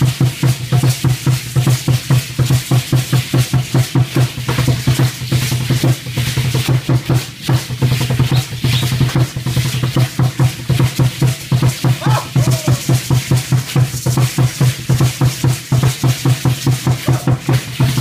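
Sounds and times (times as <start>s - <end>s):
drum beaten fast: 0.0s - 18.0s.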